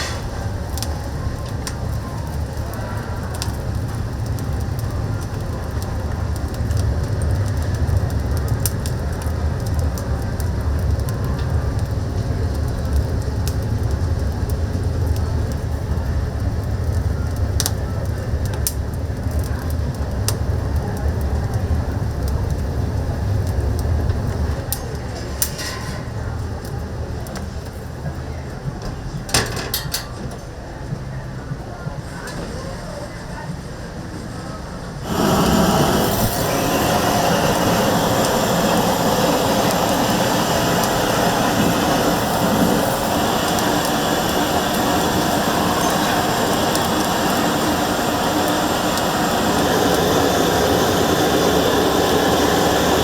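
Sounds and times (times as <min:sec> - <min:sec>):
wood crackling and popping: 0:00.0 - 0:28.4, 0:35.0 - 0:53.0
fire rumbling: 0:00.0 - 0:31.0, 0:32.1 - 0:53.0.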